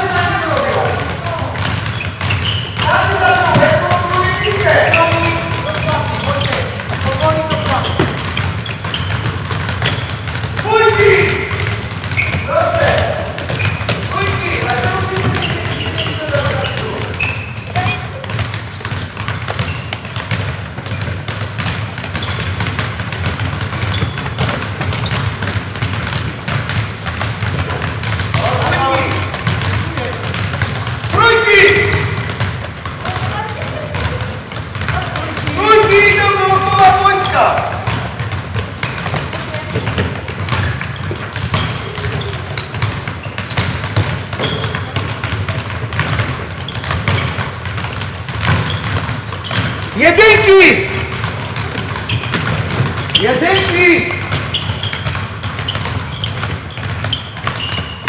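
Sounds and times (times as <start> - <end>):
footballs thudding on hall floor: 0.0 - 58.0.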